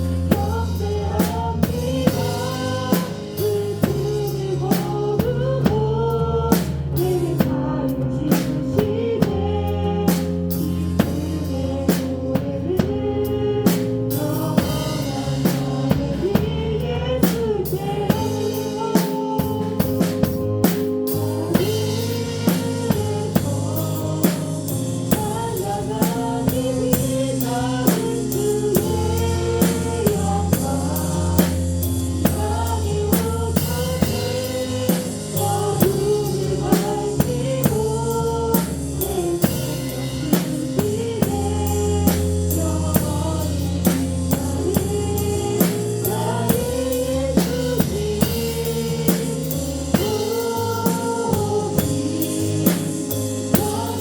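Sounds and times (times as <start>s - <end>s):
drum kit beat: 0.0s - 54.0s
live band playing: 0.0s - 54.0s.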